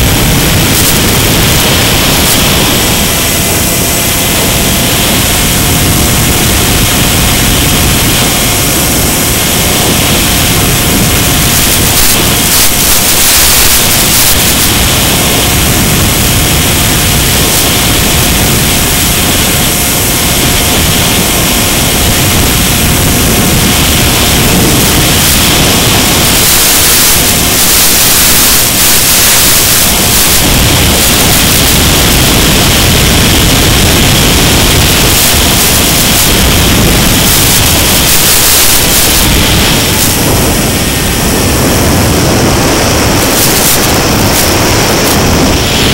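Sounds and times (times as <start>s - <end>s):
faint steady whine: 0.0s - 45.9s
loud steady hiss: 0.0s - 45.9s.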